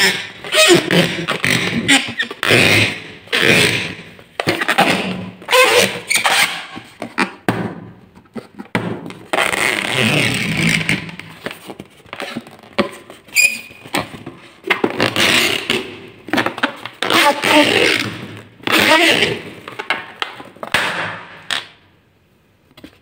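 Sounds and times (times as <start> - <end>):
balloon rubbery squeaks: 0.0 - 7.5, 8.2 - 20.8, 21.4 - 21.8.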